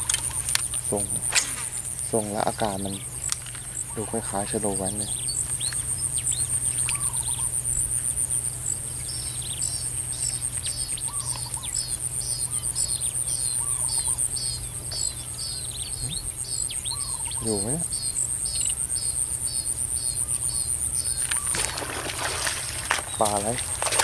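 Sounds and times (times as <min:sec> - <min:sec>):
bird calling: 0:00.0 - 0:24.0
insect chorus trilling: 0:00.0 - 0:24.0
low steady hum: 0:00.0 - 0:24.0.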